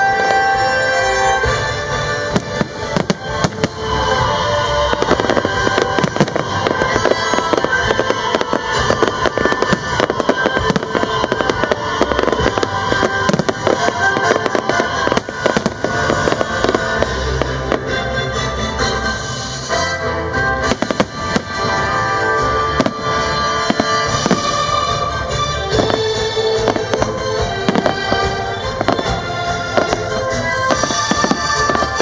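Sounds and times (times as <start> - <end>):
fireworks bursts and crackles: 0.0 - 32.0
music: 0.0 - 32.0.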